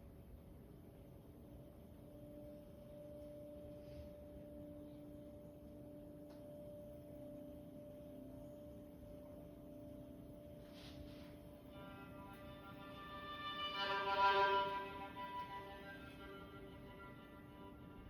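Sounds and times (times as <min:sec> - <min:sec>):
crystal singing bowls ringing: 0:02.0 - 0:18.0.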